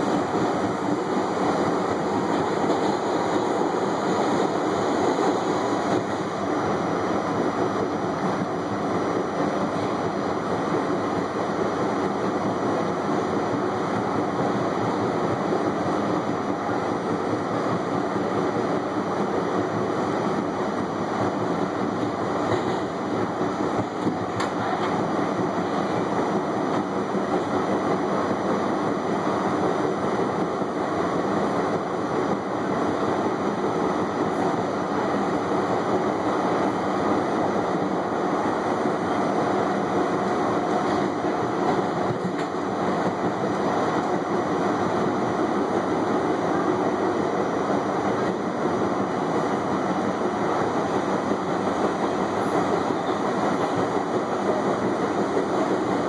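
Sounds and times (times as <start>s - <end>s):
subway train wheels rumbling on rails: 0.0s - 56.0s.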